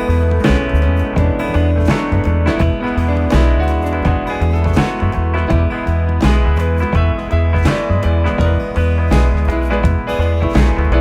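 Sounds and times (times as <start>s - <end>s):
country music with guitar: 0.0s - 11.0s.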